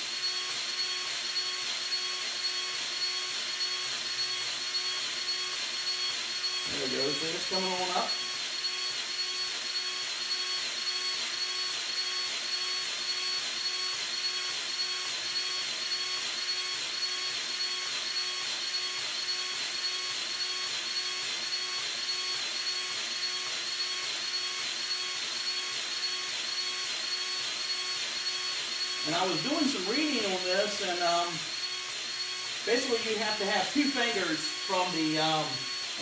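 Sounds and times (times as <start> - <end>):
powered grease gun whining: 0.0 - 36.0.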